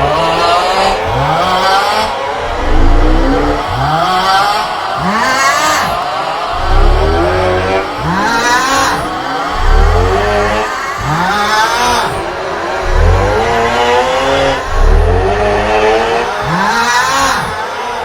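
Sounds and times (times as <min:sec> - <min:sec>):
man snoring loudly: 0:00.0 - 0:18.0.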